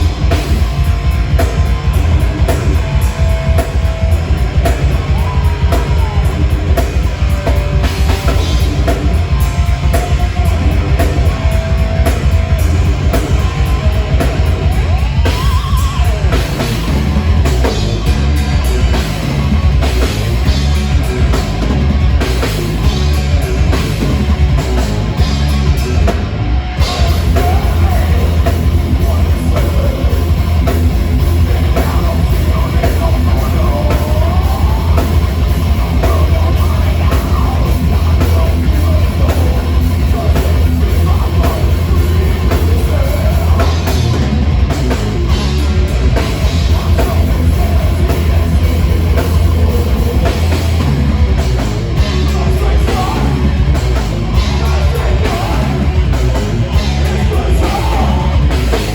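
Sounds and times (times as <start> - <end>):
drum kit: 0.0 - 58.9
heavy metal band playing: 0.0 - 58.9.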